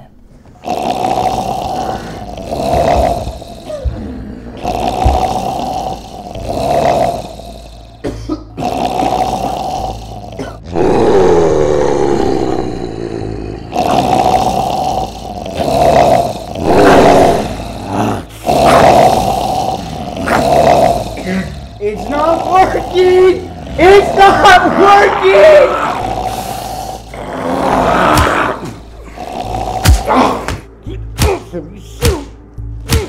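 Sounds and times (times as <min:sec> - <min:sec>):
zombie growling and snarling: 0:00.6 - 0:30.7.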